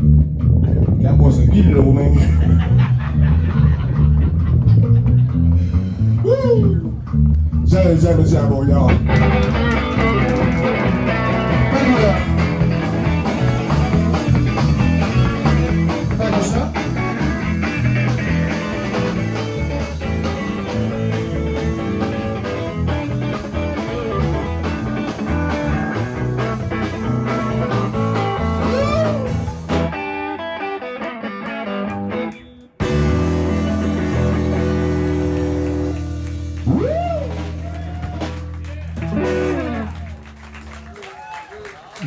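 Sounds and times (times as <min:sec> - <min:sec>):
drum kit: 0:00.0 - 0:30.2, 0:32.8 - 0:40.9
electric bass: 0:00.0 - 0:41.0
electric guitar: 0:00.0 - 0:42.0.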